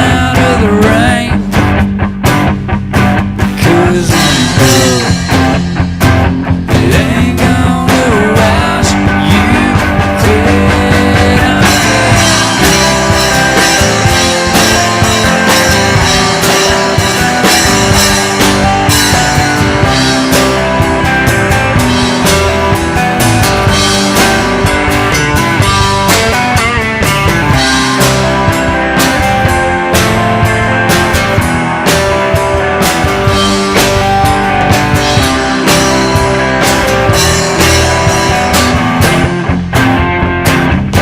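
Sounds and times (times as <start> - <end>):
bass guitar: 0.0 - 41.0
electric guitar lead: 0.0 - 41.0
drum hits: 1.6 - 41.0.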